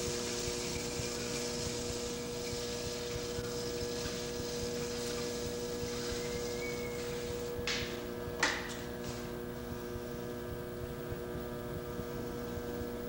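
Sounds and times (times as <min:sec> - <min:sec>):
constant hiss: 0:00.0 - 0:13.0
electrical hum: 0:00.0 - 0:13.0.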